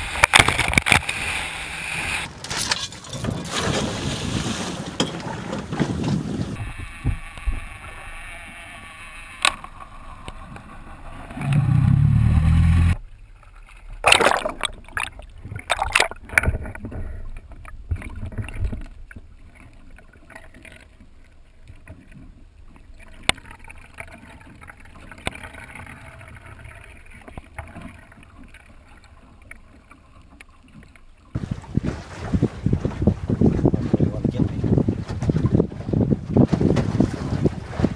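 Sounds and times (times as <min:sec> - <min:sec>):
water noise from moving boat: 0:00.0 - 0:37.9
wind: 0:00.0 - 0:37.9
rumble of moving water underwater: 0:04.2 - 0:37.9.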